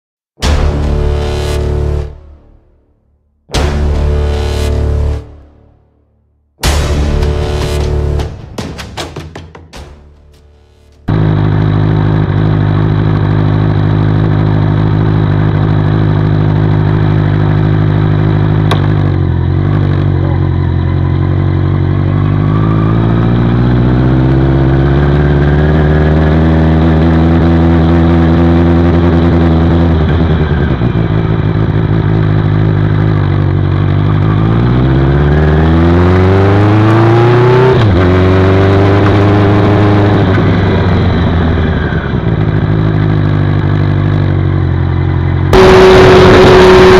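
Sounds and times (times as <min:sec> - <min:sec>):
motorcycle engine idling and revving: 0:00.4 - 0:05.8, 0:06.6 - 0:46.9.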